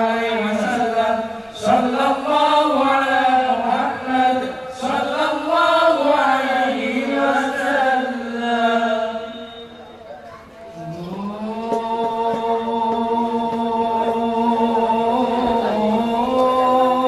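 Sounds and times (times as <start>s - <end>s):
men chanting devotional songs: 0.0s - 9.9s, 10.7s - 17.0s.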